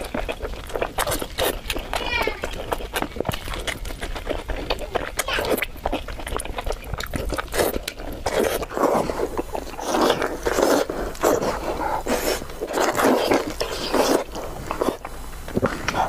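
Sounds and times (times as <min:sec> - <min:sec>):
wet chewing and mouth smacking: 0:00.0 - 0:16.0.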